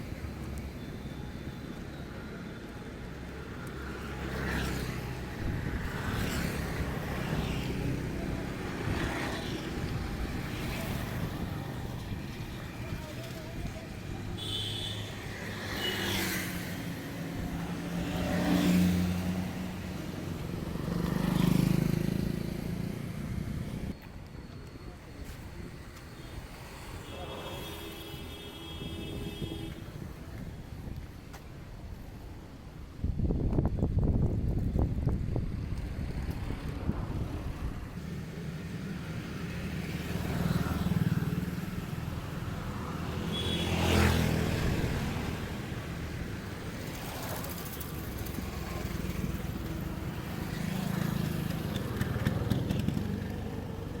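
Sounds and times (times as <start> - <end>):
vehicles passing close by: 0.0 - 54.0.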